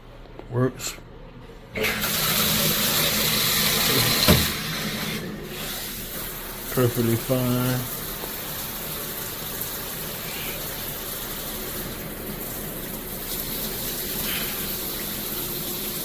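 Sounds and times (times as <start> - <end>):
shower water spraying: 1.8 - 16.0.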